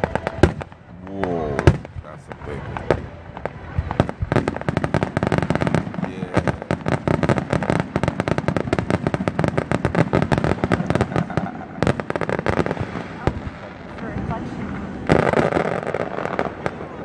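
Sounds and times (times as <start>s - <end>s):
fireworks barrage bangs: 0.0s - 17.0s.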